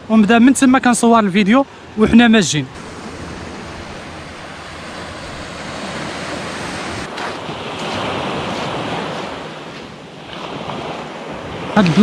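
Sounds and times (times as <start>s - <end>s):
surf washing over rocks: 2.0s - 12.0s
wind on microphone: 2.0s - 12.0s.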